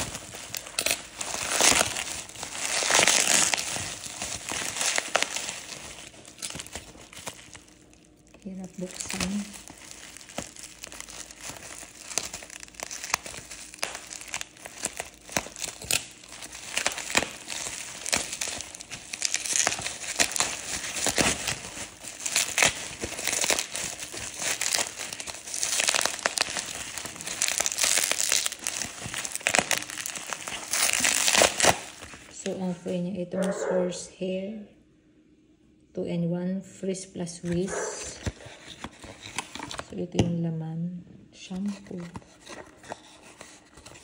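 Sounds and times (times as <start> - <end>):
bubble wrap crackling: 0.0 - 33.6, 37.4 - 39.9, 41.6 - 44.0.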